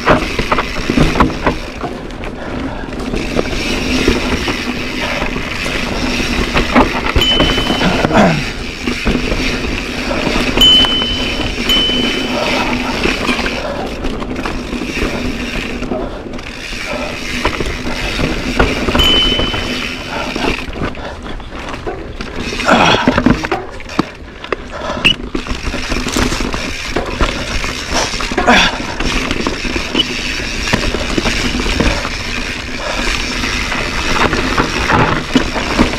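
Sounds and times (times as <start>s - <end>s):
bike clattering jolts: 0.0s - 35.9s
bike rattling: 0.0s - 35.9s
bike tyre and wind noise: 0.0s - 35.9s.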